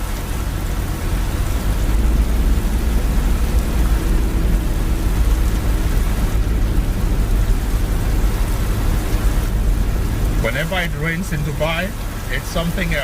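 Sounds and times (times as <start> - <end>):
car rumbling on wet road: 0.0 - 13.0
heavy rain on a car: 0.0 - 13.0.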